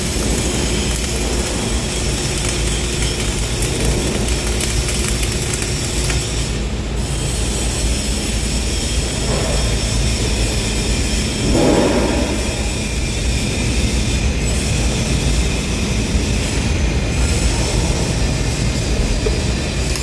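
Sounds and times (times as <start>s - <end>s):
factory noise: 0.0s - 20.0s
welding arc crackling: 0.0s - 20.0s.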